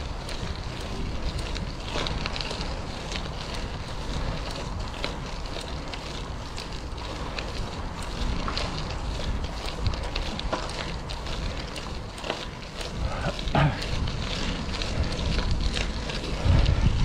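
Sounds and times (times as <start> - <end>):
bicycle tyre noise: 0.0 - 17.0
tyres crackling on rough surface: 0.0 - 17.0
wind rumbling on microphone: 0.0 - 17.0.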